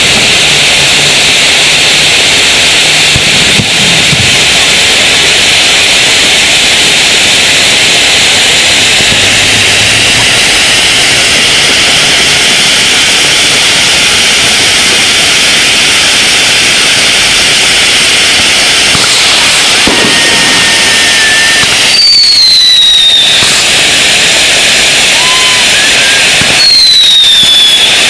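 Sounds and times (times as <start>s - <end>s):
firework fountain hissing: 0.0s - 28.0s.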